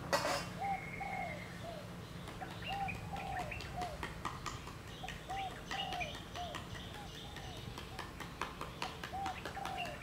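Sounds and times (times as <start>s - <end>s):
birds calling short notes: 0.2s - 10.0s.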